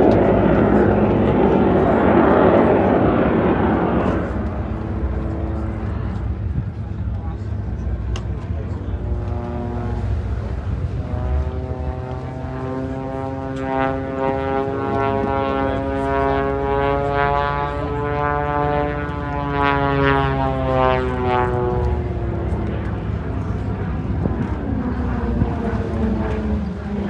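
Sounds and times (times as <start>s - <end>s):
propeller airplane droning: 0.0s - 27.0s.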